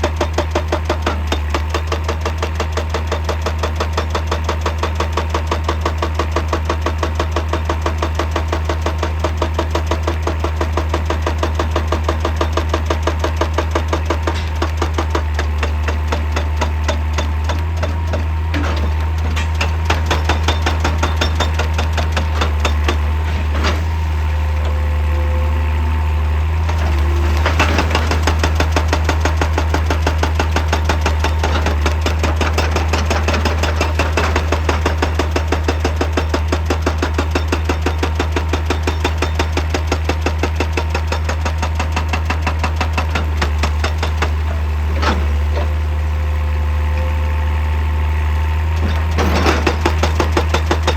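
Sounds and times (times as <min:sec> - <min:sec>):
hydraulic breaker hammering rock: 0:00.0 - 0:47.6, 0:48.2 - 0:50.9
diesel engine running: 0:00.0 - 0:50.9.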